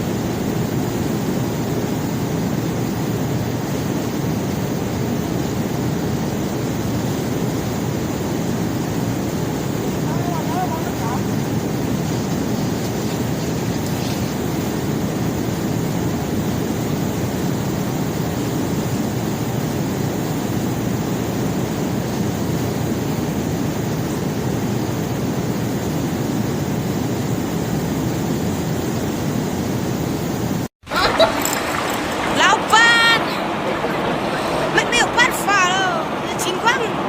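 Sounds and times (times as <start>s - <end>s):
conveyor belt rumbling: 0.0s - 37.0s.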